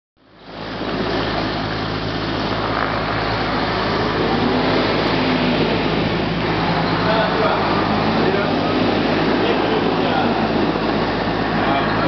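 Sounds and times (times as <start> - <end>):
helicopter engines and rotors: 0.2 - 12.0.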